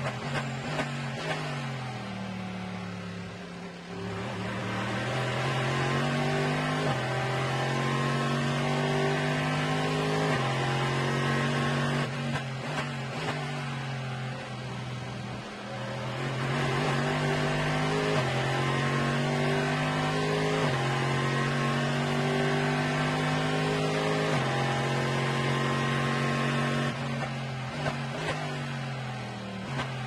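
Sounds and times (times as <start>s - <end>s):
race car engine with gear changes: 0.0s - 30.0s.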